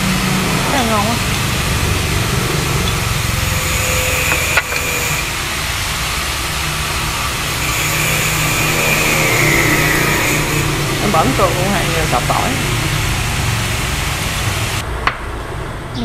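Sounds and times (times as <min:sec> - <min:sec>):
hiss: 0:00.0 - 0:14.8
low motor-like drone: 0:00.0 - 0:16.0.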